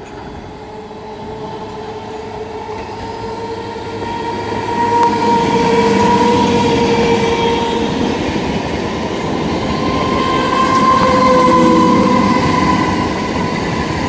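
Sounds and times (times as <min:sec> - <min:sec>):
train humming tone: 0:00.0 - 0:14.0
train wheels rumbling on rails: 0:00.0 - 0:14.0.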